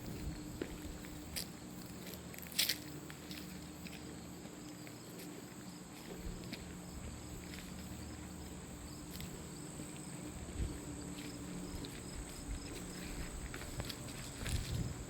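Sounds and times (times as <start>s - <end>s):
footsteps walking: 0.0s - 15.0s
insects trilling: 0.0s - 15.0s.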